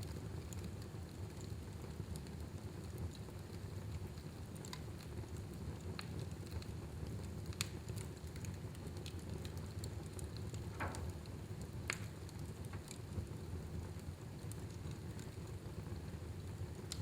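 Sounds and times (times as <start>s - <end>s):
fire crackles and pops: 0.0s - 17.0s
fire rumbling in fireplace: 0.0s - 17.0s.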